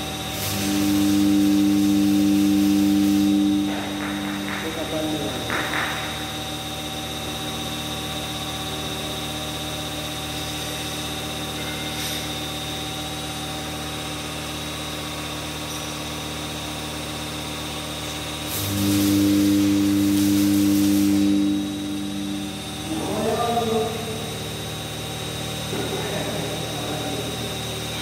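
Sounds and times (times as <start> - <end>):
electric motor and pump humming: 0.0 - 28.0.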